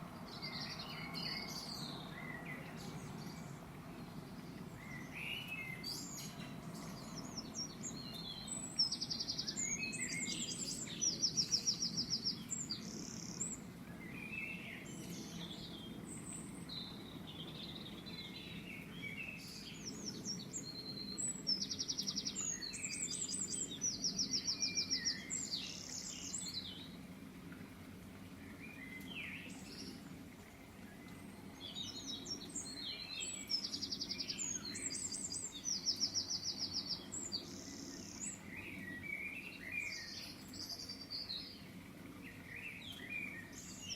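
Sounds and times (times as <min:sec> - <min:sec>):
birds singing high chirps: 0:00.0 - 0:27.0, 0:28.4 - 0:43.9.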